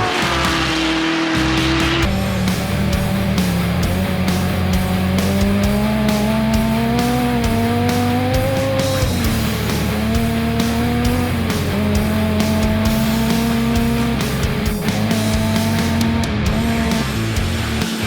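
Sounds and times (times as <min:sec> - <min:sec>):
music with a steady beat: 0:00.0 - 0:18.0
race car engine running hard: 0:00.0 - 0:18.0.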